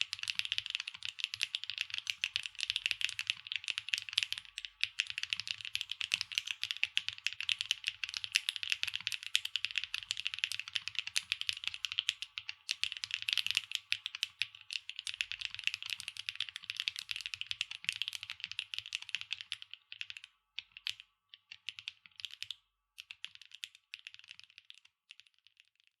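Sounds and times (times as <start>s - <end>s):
mechanical keyboard typing: 0.0s - 25.3s.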